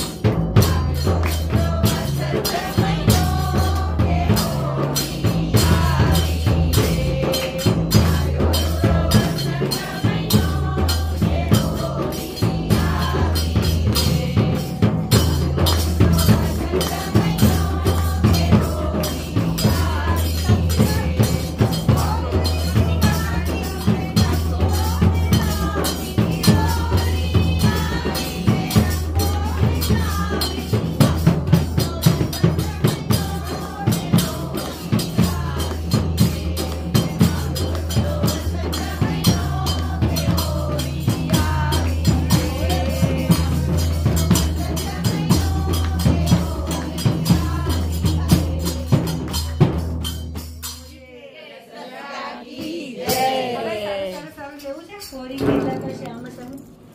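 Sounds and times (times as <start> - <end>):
hand percussion strikes: 0.0 - 51.0, 52.5 - 56.9
women singing together: 0.0 - 54.7
jingling tambourine: 0.0 - 56.9.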